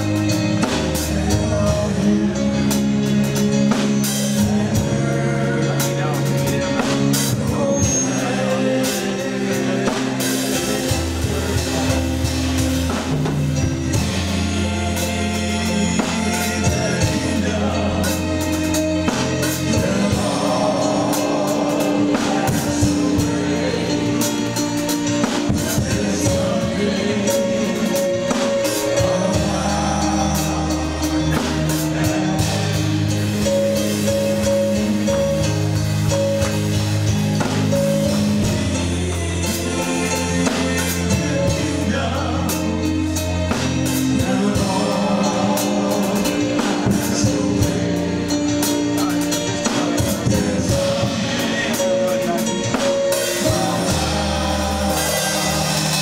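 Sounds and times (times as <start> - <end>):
person singing worship song: 0.0 - 12.9, 13.9 - 35.8, 37.6 - 56.0
drum kit: 0.0 - 56.0
low held bass notes: 0.0 - 56.0.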